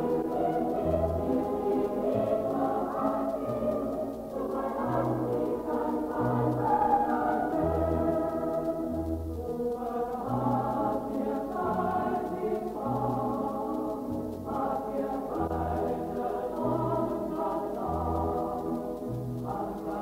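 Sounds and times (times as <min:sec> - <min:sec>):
choir singing held notes: 0:00.0 - 0:20.0
instrumental accompaniment: 0:00.0 - 0:20.0.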